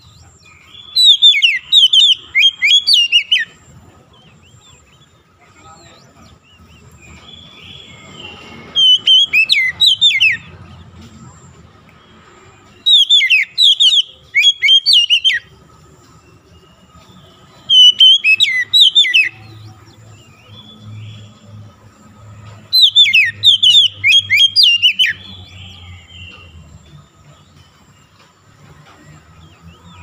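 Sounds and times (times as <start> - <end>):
bird whistling song: 0.0 - 10.7, 11.9 - 15.6, 16.2 - 21.6, 22.5 - 28.0.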